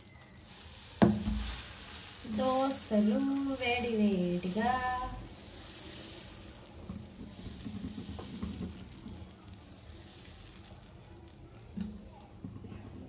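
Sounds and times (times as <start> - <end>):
batter sizzling on hot griddle: 0.0 - 13.0.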